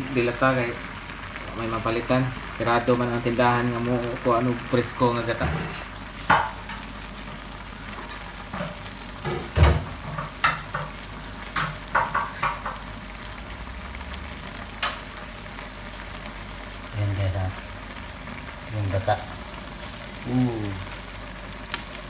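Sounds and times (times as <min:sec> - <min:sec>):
food sizzling in a wok: 0:00.0 - 0:22.0.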